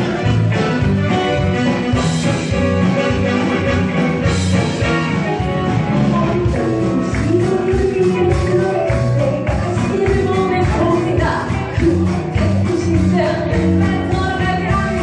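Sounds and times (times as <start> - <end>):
drum kit: 0.0 - 15.0
electric guitar: 0.0 - 15.0
live rock band: 0.0 - 15.0.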